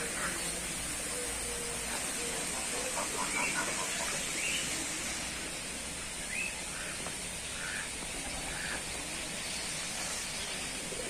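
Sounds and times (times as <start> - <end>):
open air hiss: 0.0 - 11.0.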